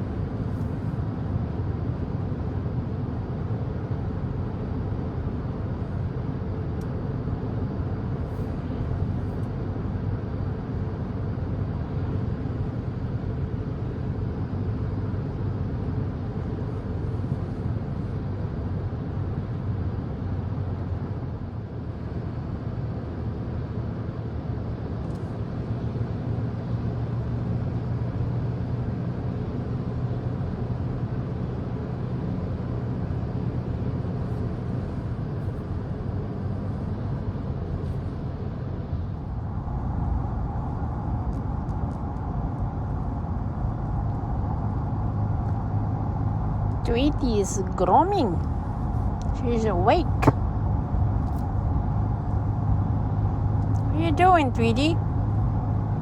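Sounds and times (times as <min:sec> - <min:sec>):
car cabin road and engine noise: 0:00.0 - 0:56.0.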